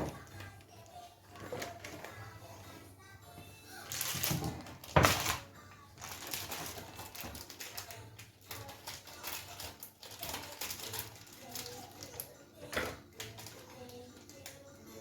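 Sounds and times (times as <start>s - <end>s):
rustling and clattering: 1.2s - 2.9s, 3.9s - 14.6s.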